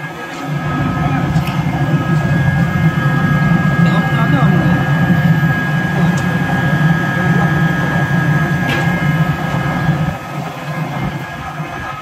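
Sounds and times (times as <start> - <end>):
high whining tones: 0.4 - 11.3
pellet mill low hum: 0.5 - 11.2.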